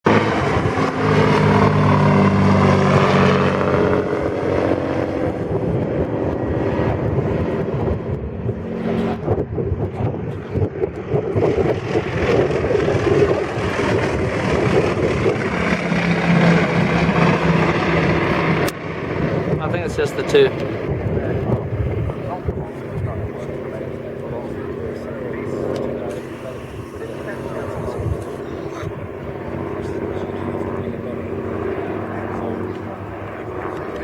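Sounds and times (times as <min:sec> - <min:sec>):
piston engine running loudly: 0:00.1 - 0:34.0.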